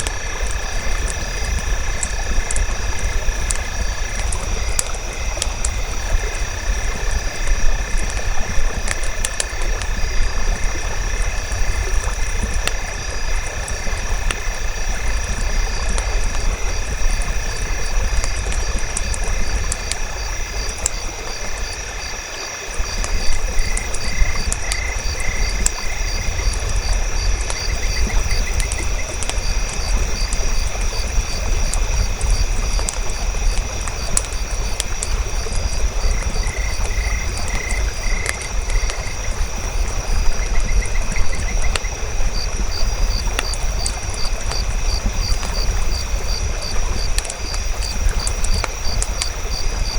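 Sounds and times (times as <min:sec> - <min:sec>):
campfire crackling: 0:00.0 - 0:49.9
night insects and frogs: 0:00.0 - 0:49.9.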